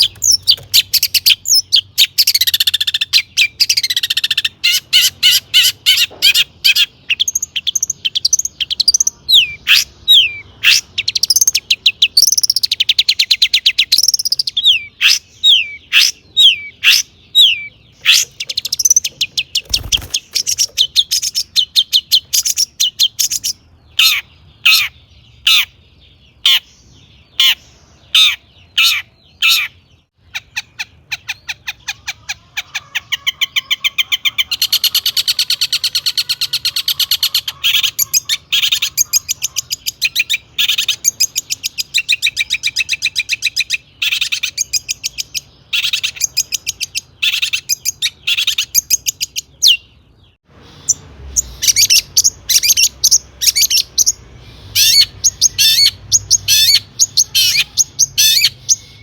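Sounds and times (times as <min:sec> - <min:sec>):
bird singing with mimicked calls: 0:00.0 - 0:59.0.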